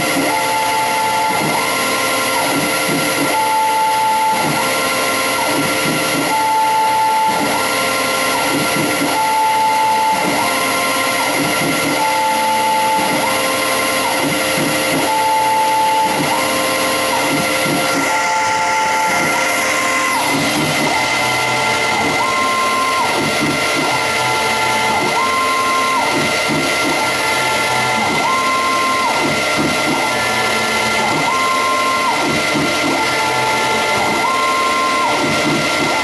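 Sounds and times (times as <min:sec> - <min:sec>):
lathe motor whine: 0:00.0 - 0:36.0
stepper drive whine rising in pitch: 0:00.0 - 0:36.0.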